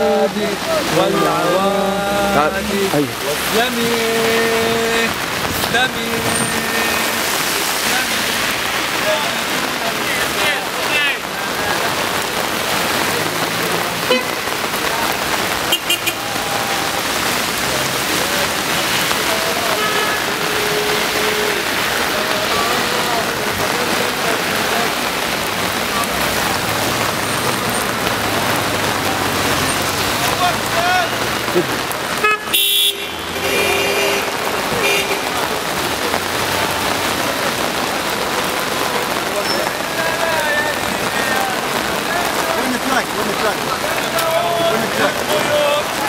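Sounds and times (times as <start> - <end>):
cars driving on wet road: 0.0 - 46.0
heavy rain on pavement: 0.0 - 46.0.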